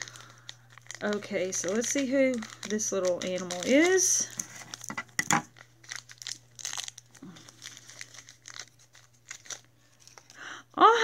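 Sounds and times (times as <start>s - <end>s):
plastic wrapper tearing: 0.0s - 10.4s
plastic wrapper crinkling: 0.0s - 10.5s.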